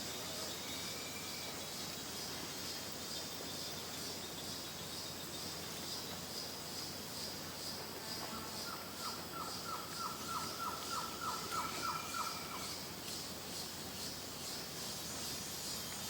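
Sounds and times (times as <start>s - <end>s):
high insect chorus: 0.0s - 16.0s.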